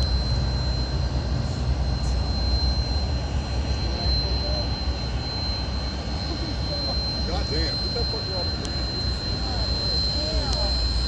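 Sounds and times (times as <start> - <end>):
distant turboprop engines rumbling: 0.0 - 11.0.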